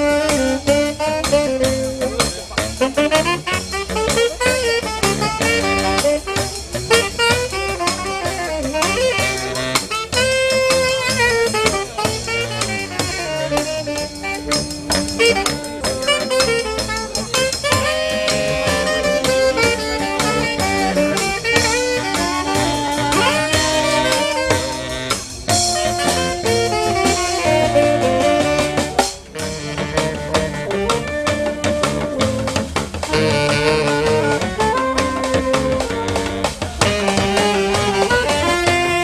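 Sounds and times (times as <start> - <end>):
brass band playing: 0.0 - 39.0
percussion beat: 0.0 - 39.0.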